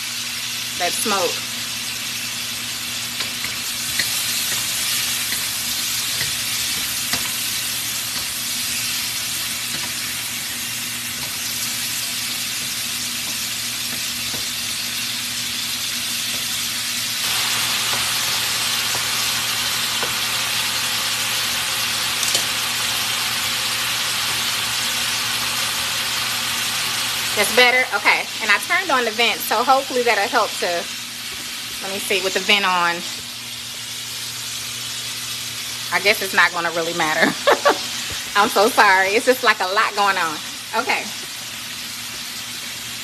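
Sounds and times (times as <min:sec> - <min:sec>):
meat sizzling in wok: 0:00.0 - 0:43.0.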